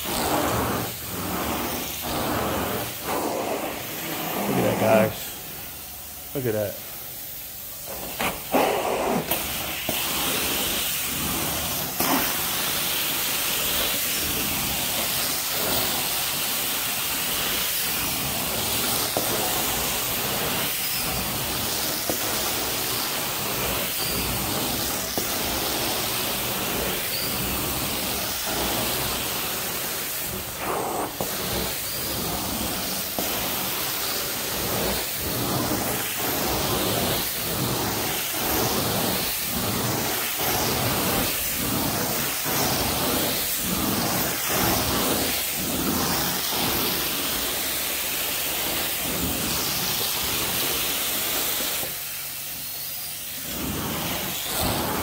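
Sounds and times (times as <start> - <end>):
carpet extraction wand hissing: 0.0 - 55.0.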